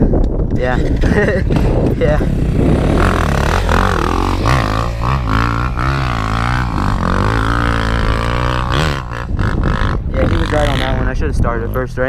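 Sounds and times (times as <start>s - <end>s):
dirt bike engine idling: 0.9s - 11.6s.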